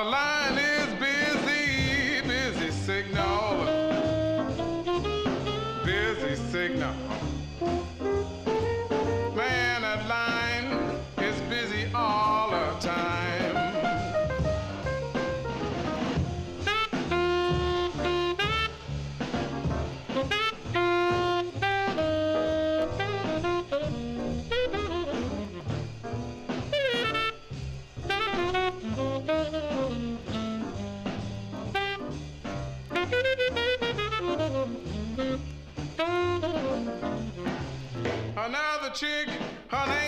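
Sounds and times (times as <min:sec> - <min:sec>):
brass: 0:00.0 - 0:40.0
drum kit: 0:00.0 - 0:40.0
stepping bass line: 0:00.4 - 0:38.5
saxophone melody: 0:00.5 - 0:38.0.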